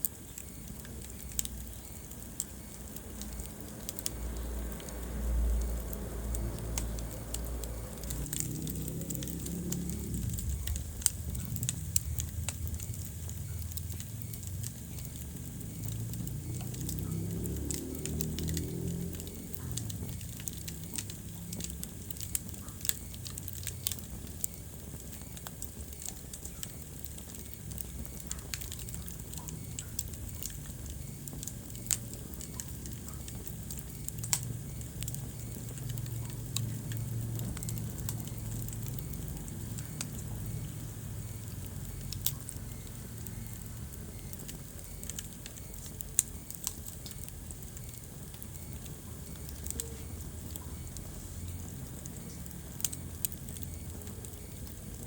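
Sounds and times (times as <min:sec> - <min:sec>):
fire rumbling: 0:00.0 - 0:55.0
wood fire crackling and popping: 0:00.0 - 0:55.0.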